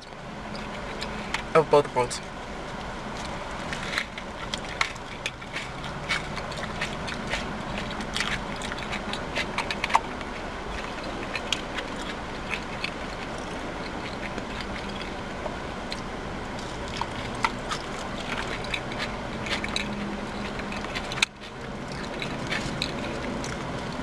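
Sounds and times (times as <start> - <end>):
chewing mouth sounds: 3.2 - 24.0.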